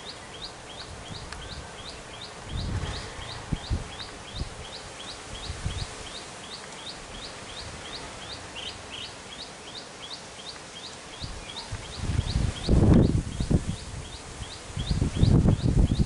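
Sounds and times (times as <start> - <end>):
bird chirping: 0.0 - 16.0
outdoor background noise: 0.0 - 16.0.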